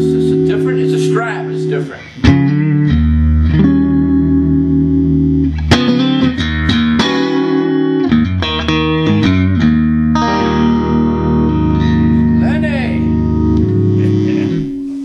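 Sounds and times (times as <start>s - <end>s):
clean electric guitar chords and notes: 0.0s - 15.0s.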